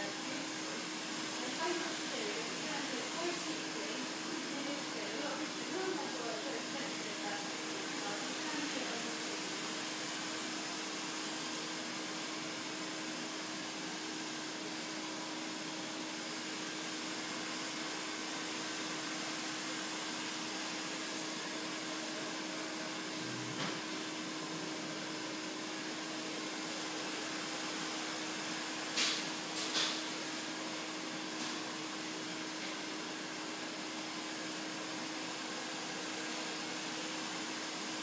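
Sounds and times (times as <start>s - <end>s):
blower rushing hiss: 0.0s - 38.0s.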